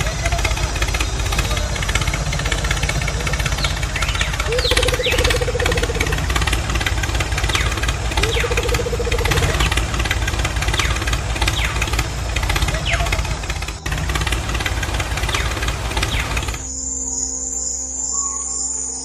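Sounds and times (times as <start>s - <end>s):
tractor engine chugging: 0.0s - 16.8s
pulsing mid-pitched tone: 0.0s - 18.7s.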